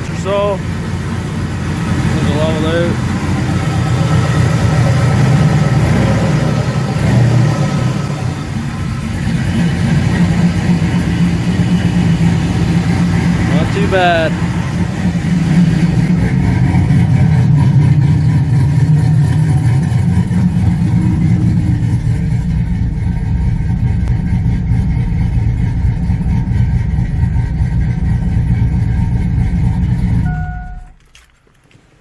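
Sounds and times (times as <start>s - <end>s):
pickup engine idling rough: 0.0s - 32.0s.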